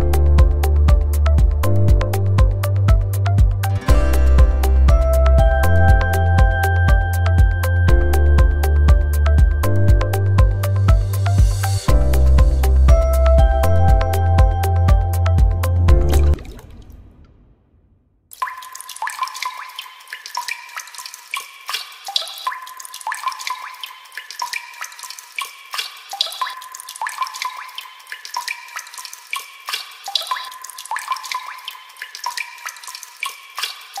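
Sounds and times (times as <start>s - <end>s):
water dripping into water: 0.0s - 17.3s, 18.3s - 34.0s.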